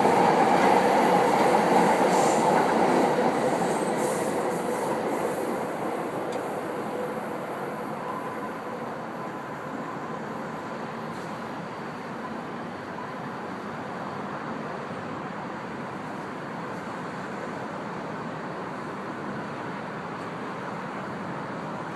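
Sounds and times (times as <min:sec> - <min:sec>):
steady traffic noise: 0:00.0 - 0:21.9.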